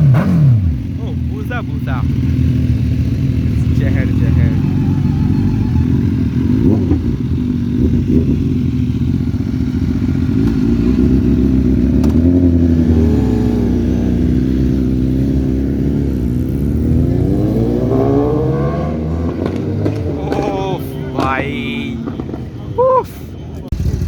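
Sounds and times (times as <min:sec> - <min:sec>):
motorcycle engine running loud: 0:00.0 - 0:22.8, 0:23.7 - 0:24.0.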